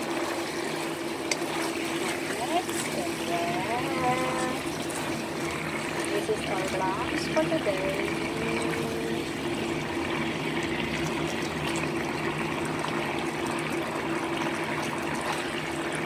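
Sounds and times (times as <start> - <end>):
low hum: 0.2 - 16.0.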